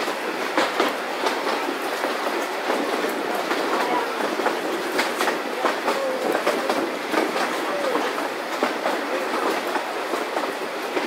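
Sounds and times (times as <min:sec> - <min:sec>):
train rushing noise: 0:00.0 - 0:11.0
wheels clicking over rail joints: 0:00.0 - 0:11.0.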